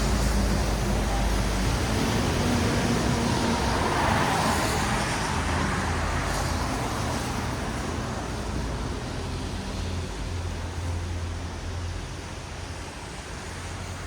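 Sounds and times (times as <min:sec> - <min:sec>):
low rumble of traffic: 0:00.0 - 0:14.0
tyres hissing on wet road: 0:00.0 - 0:14.0.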